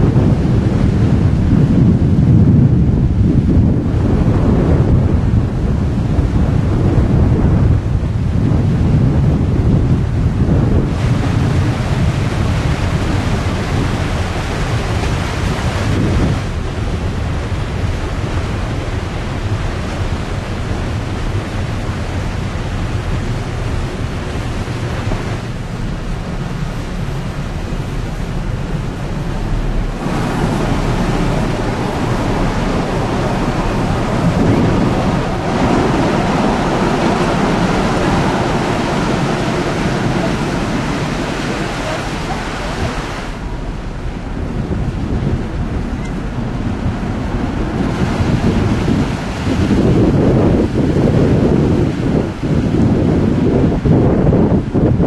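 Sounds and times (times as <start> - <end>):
ship engine low rumble: 0.0 - 55.0
water rushing along hull: 0.0 - 55.0
wind buffeting microphone: 0.0 - 55.0.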